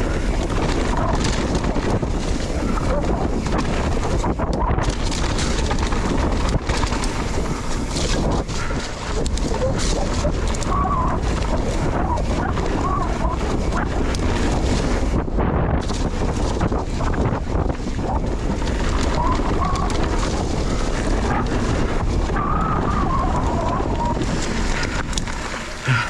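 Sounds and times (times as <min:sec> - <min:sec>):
bike knocking and rattling: 0:00.0 - 0:26.0
tyre noise: 0:00.0 - 0:26.0
wind rush on microphone: 0:00.0 - 0:26.0.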